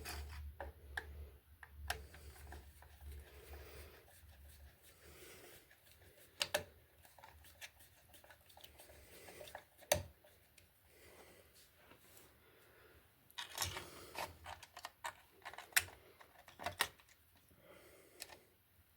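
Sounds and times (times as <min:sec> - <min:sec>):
faint scraping and handling: 0:00.0 - 0:01.3, 0:01.9 - 0:18.5.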